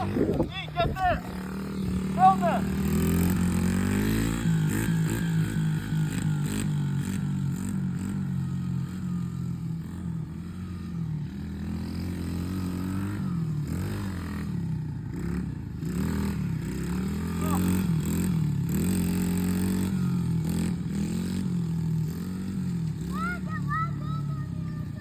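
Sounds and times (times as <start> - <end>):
small motorcycle engines idling: 0.0 - 25.0.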